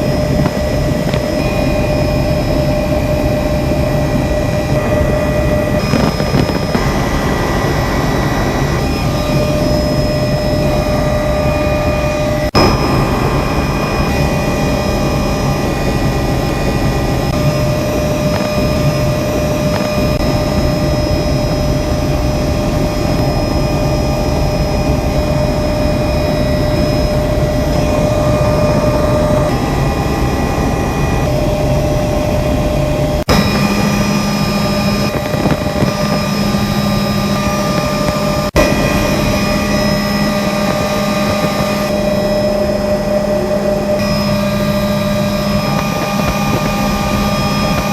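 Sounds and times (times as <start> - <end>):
helicopter engine and rotors: 0.0 - 47.9.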